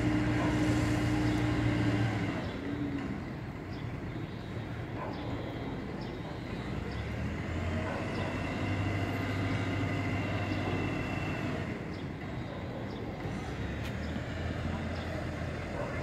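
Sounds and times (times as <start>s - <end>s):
vehicle engine running: 0.0s - 4.4s, 6.1s - 16.0s.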